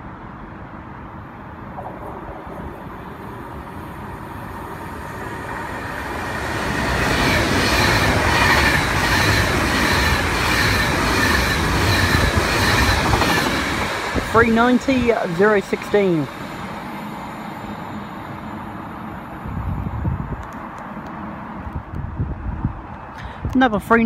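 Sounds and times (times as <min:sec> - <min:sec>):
train rushing past: 0:01.6 - 0:21.7.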